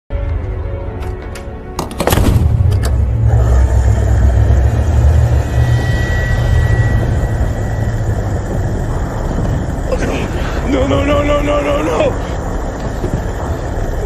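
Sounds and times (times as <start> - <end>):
vehicle engine running: 2.5 - 14.0.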